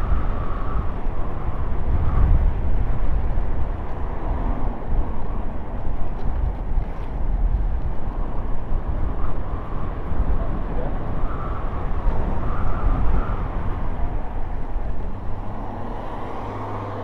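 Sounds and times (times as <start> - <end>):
tyres rolling on asphalt: 0.0 - 17.0
wind on microphone: 0.0 - 17.0.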